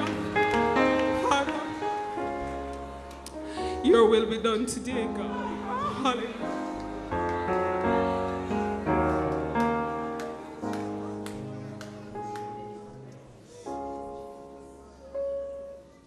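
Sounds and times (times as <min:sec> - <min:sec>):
keyboard playing slow chords: 0:00.0 - 0:16.0.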